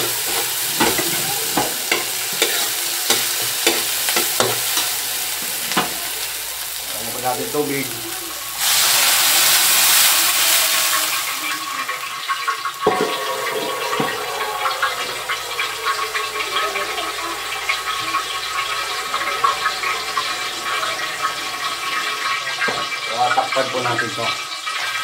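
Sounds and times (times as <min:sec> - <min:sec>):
liquid sizzling in pan: 0:00.0 - 0:25.0
water poured into hot pan hissing: 0:00.0 - 0:25.0.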